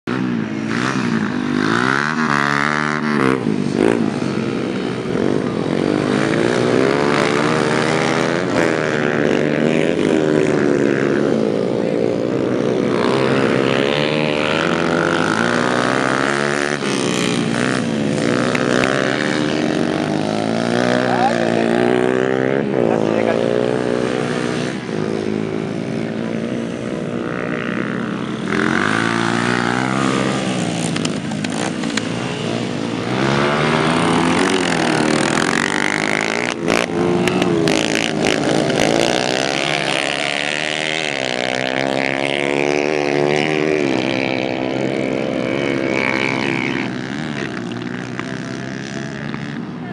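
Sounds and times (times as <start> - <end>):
racing motorcycles at full throttle: 0.0 - 49.9.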